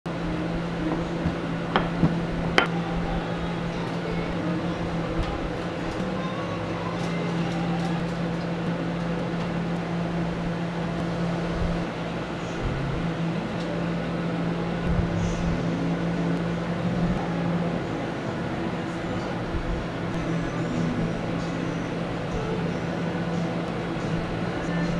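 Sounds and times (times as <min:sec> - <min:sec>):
motor or fan humming: 0:00.0 - 0:24.9.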